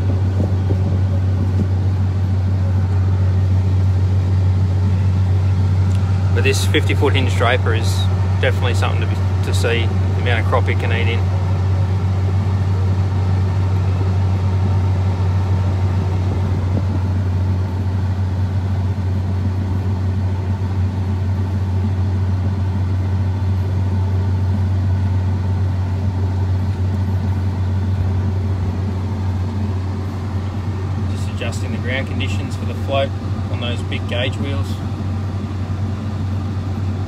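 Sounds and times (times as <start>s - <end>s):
combine harvester engine drone: 0.0s - 37.0s.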